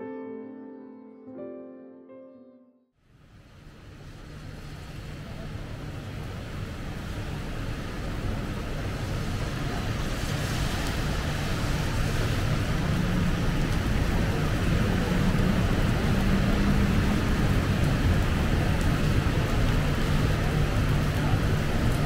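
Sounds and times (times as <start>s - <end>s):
city road traffic rumble: 3.1s - 22.0s
heavy rain hissing on pavement: 3.2s - 22.0s.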